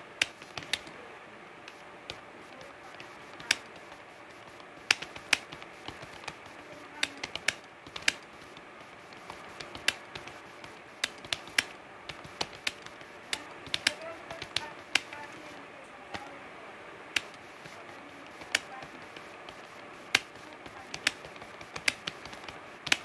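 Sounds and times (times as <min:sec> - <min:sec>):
keyboard typing: 0:00.0 - 0:01.0, 0:01.6 - 0:16.4, 0:17.1 - 0:23.0.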